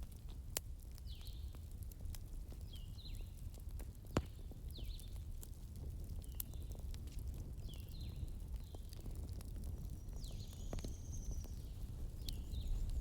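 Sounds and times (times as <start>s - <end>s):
fire crackling and popping: 0.0s - 13.0s
low rumble of fire: 0.0s - 13.0s.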